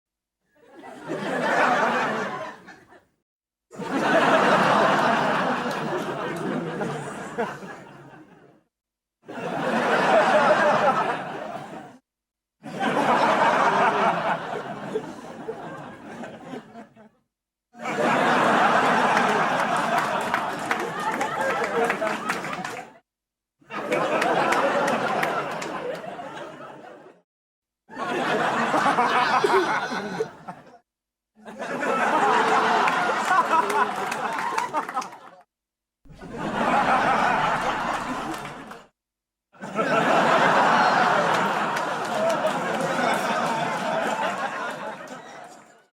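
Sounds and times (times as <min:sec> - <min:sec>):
studio audience laughing: 0:00.6 - 0:12.0, 0:12.6 - 0:17.2, 0:17.8 - 0:23.0, 0:23.7 - 0:27.2, 0:27.9 - 0:30.8, 0:31.4 - 0:35.5, 0:36.1 - 0:38.9, 0:39.6 - 0:45.9.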